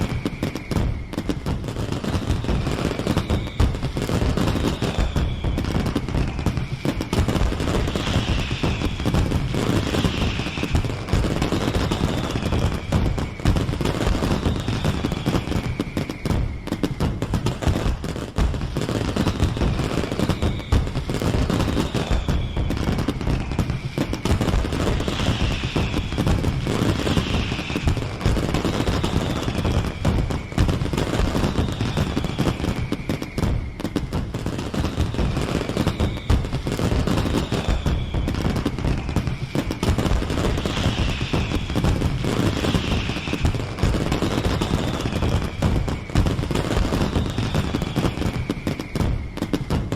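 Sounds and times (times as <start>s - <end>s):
rocket whistles descending: 0.0s - 17.1s, 19.3s - 49.9s
fireworks bangs and crackles: 0.0s - 49.9s.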